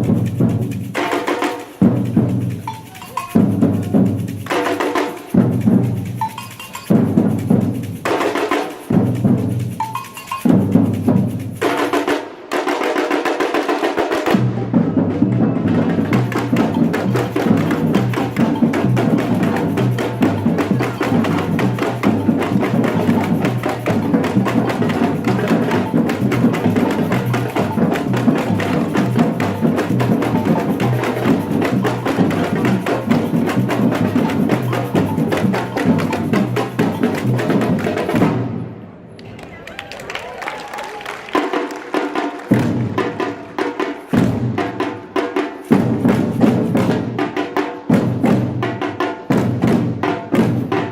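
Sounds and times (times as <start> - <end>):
samba percussion drums: 0.0 - 38.8, 39.4 - 50.9.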